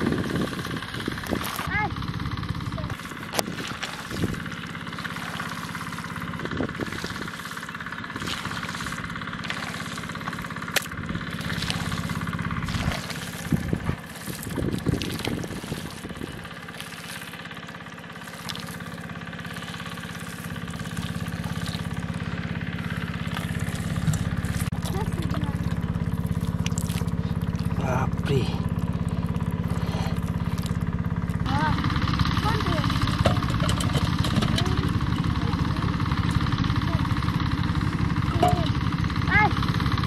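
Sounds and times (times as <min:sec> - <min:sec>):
hands squelching in wet mud: 0:00.0 - 0:01.7, 0:02.6 - 0:38.8
engine droning: 0:00.0 - 0:40.0.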